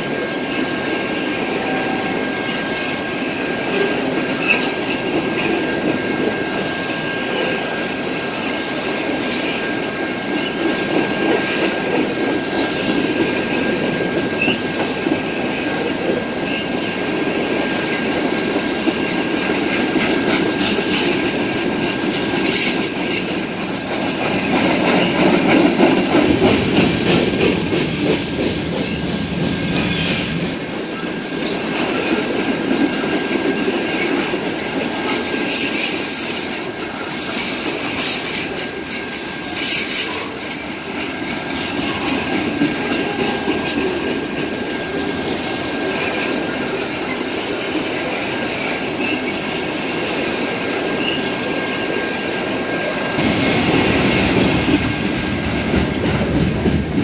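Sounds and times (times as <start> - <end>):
steel wheels rumbling on rail: 0.0 - 57.0
wheels clacking over rail joints: 1.2 - 51.3, 53.2 - 57.0.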